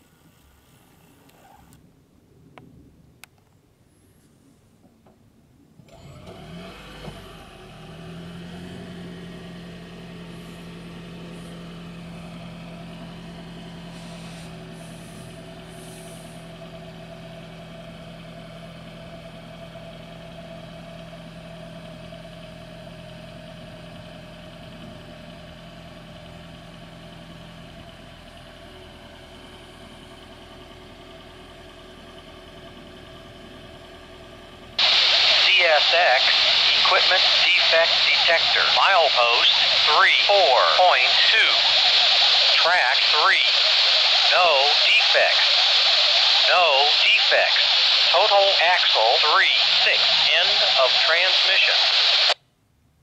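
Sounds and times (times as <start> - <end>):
diesel engine idling: 5.9 - 52.2.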